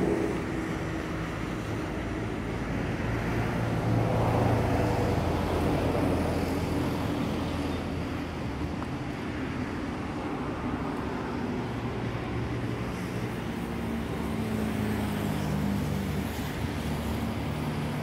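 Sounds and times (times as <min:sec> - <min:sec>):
outdoor noise: 0:00.0 - 0:18.0.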